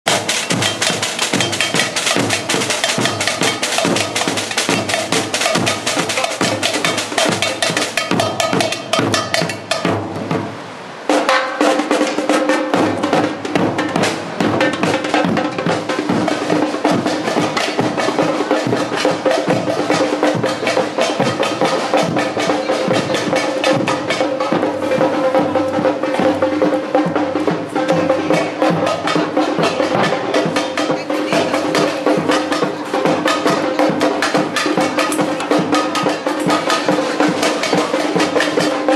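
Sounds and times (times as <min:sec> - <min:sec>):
fast samba drumming: 0:00.0 - 0:38.9.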